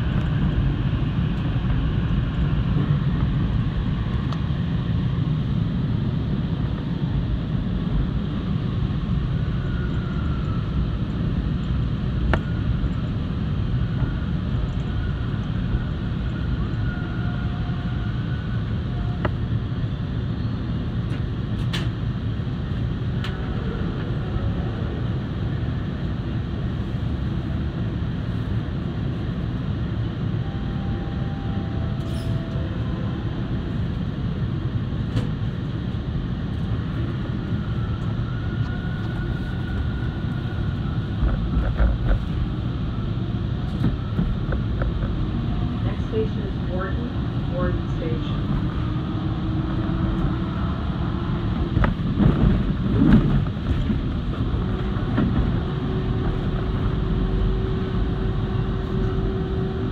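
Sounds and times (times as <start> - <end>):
subway train rumbling on tracks: 0.0 - 59.9.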